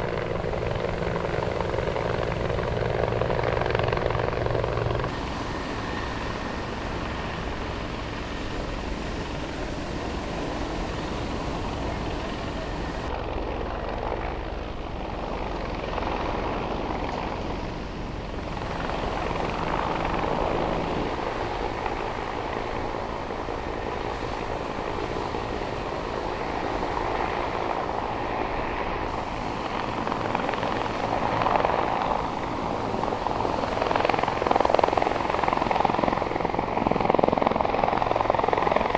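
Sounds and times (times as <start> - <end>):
helicopter engine drone: 0.0 - 38.9
helicopter rotor beating: 0.0 - 38.9.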